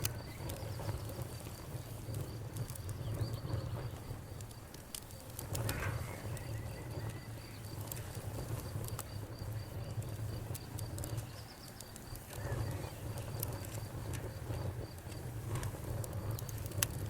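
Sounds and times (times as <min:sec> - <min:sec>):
burning wood popping: 0:00.0 - 0:17.0
campfire crackling: 0:00.0 - 0:17.0
insects chirping: 0:00.0 - 0:17.0.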